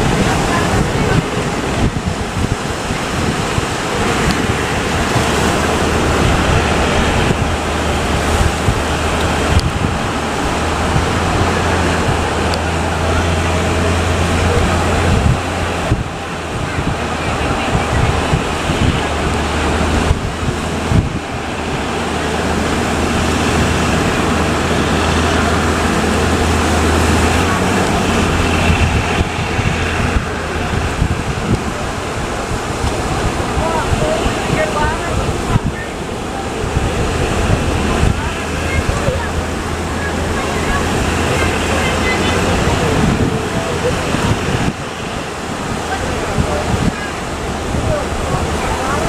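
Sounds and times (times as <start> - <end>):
sea surf rushing: 0.0 - 49.0
wind buffeting microphone: 0.0 - 49.0.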